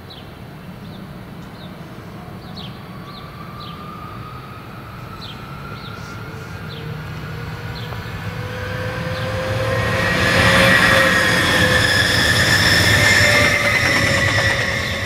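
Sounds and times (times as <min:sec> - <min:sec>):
train wheel and rail noise: 0:00.0 - 0:15.0
electric traction drive whine: 0:02.7 - 0:15.0.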